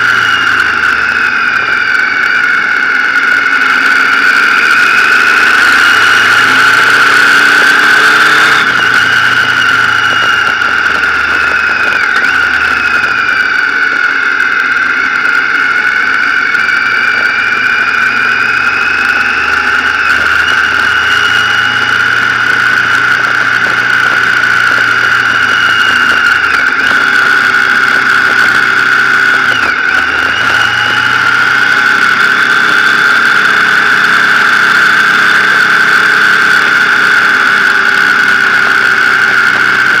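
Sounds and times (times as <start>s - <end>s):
motorcycle engine running: 0.0s - 40.0s
steady high-pitched whine: 0.0s - 40.0s.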